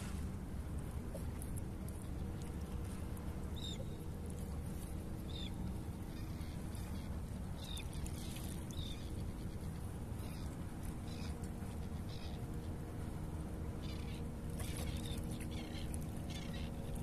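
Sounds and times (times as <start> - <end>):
low rumble of wind and sea: 0.0 - 17.0.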